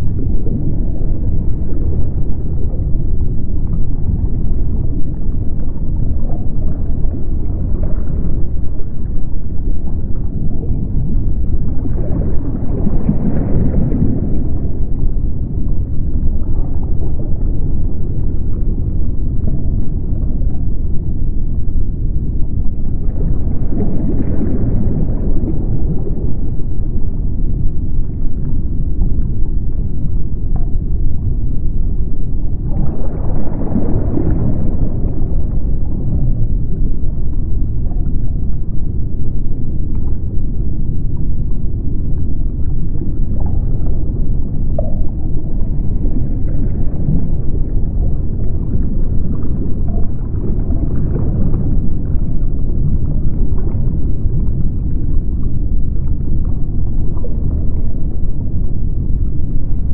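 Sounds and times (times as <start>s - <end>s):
low underwater rumble: 0.0s - 59.9s.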